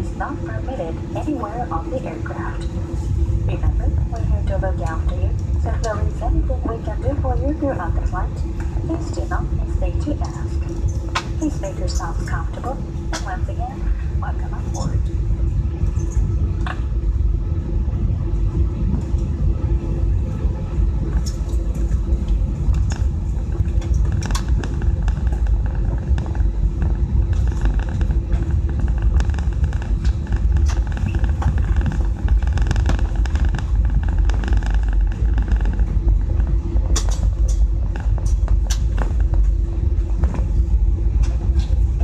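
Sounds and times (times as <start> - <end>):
airliner cabin rumble and hum: 0.0 - 42.0.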